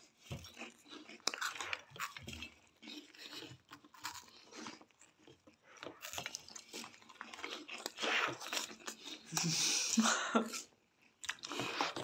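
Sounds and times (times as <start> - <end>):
people crunching and chewing snacks: 0.0 - 12.0.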